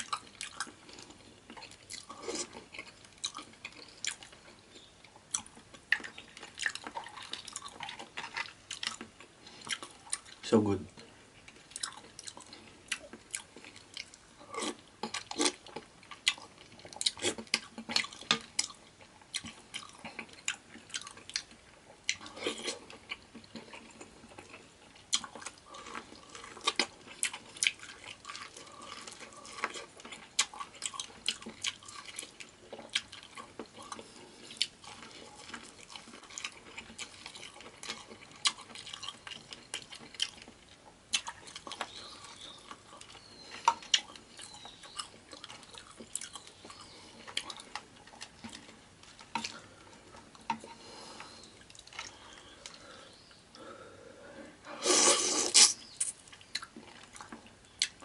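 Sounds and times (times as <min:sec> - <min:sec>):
wet chewing and smacking: 0:00.0 - 0:53.7, 0:55.5 - 0:58.0.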